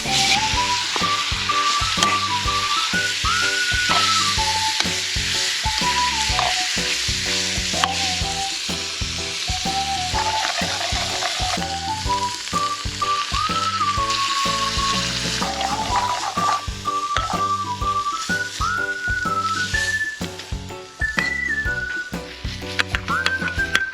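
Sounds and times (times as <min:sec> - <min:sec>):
background music with whistle melody: 0:00.0 - 0:23.9
food sizzling in a wok: 0:00.0 - 0:23.9.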